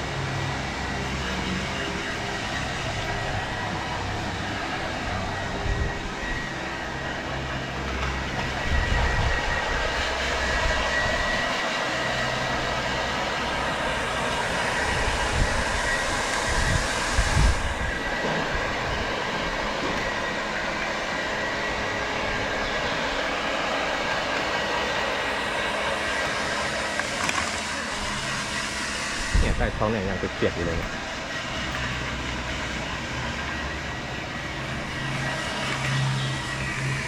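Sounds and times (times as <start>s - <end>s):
blow dryer running: 0.0s - 37.0s.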